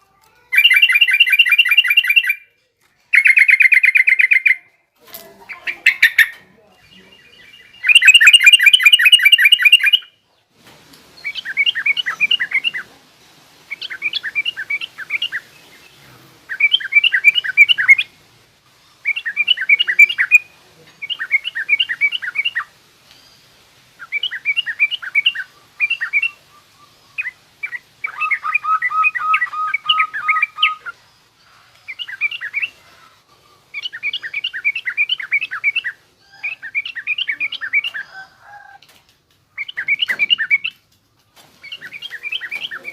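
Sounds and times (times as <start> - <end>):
bird twittering song: 0.6 - 2.5, 3.1 - 4.7, 5.5 - 10.2, 11.2 - 12.9, 13.7 - 18.1, 18.9 - 32.8, 33.7 - 38.8, 39.6 - 40.8, 41.6 - 42.9.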